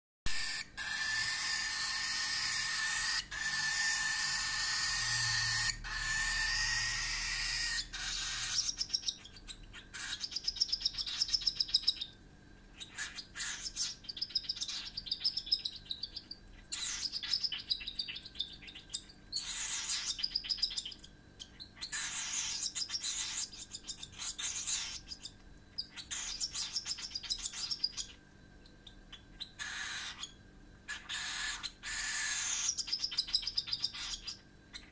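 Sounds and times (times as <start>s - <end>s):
rapid pulsing chirps: 0.4s - 12.1s, 12.8s - 34.9s.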